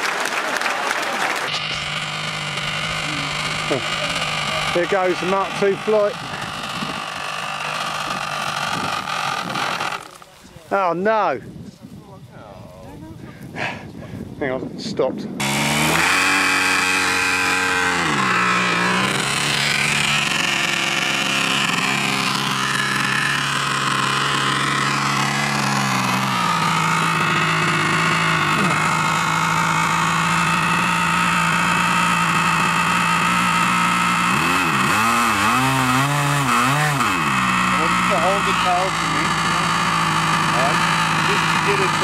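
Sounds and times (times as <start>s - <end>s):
model plane engine running: 1.1s - 10.4s, 15.4s - 42.0s.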